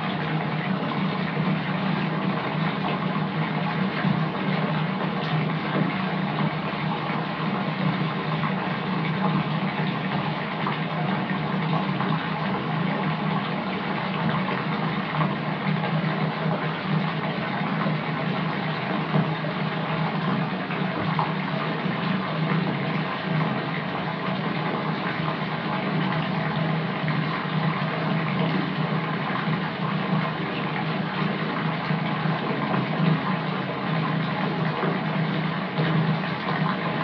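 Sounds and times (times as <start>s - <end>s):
tap water filling bathtub: 0.0s - 37.0s.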